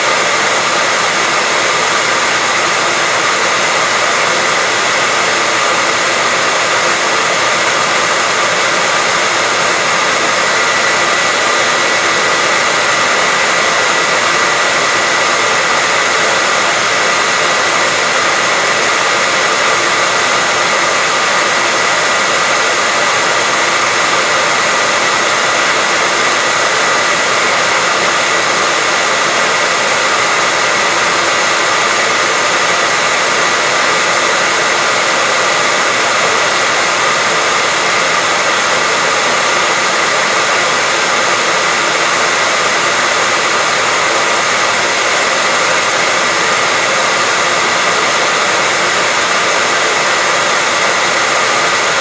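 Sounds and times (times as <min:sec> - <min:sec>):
hair dryer running: 0:00.0 - 0:52.0.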